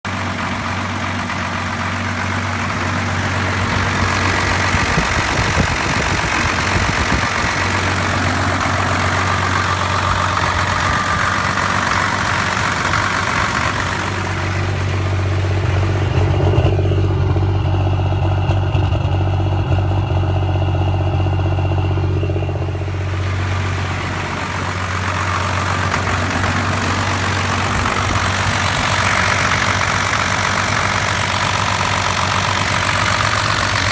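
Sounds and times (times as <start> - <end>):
diesel engine idling rough: 0.0 - 33.9.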